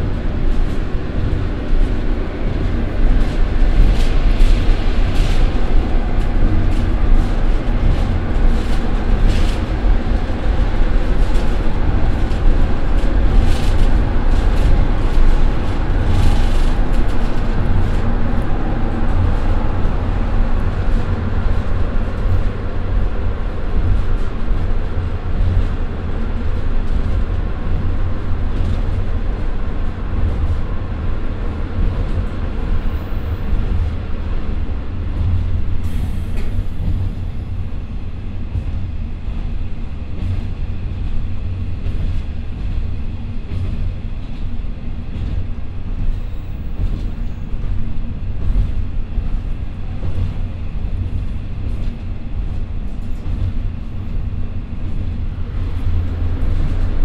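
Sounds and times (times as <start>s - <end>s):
diesel engine drone: 0.0s - 57.0s
track clicks and clatter: 0.0s - 57.0s
wheels rumbling on rail: 0.0s - 57.0s.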